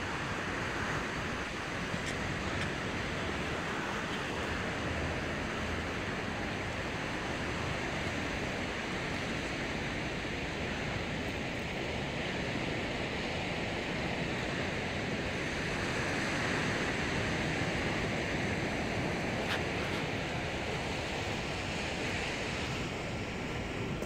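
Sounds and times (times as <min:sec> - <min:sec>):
sea surf against stone jetty: 0:00.0 - 0:24.0
wind on microphone: 0:00.0 - 0:24.0.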